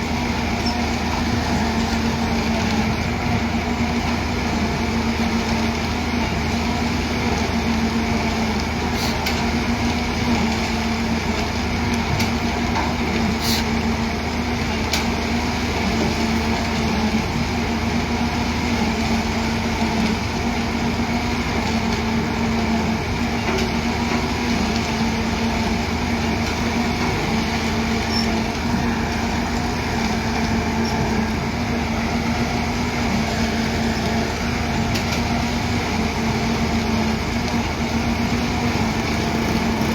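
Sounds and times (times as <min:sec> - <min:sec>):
diesel machinery drone: 0:00.0 - 0:39.9.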